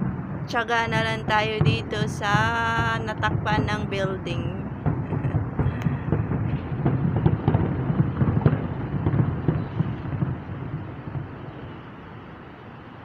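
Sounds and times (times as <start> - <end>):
low rumble: 0.0 - 11.8
fireworks popping and crackling: 0.0 - 12.5.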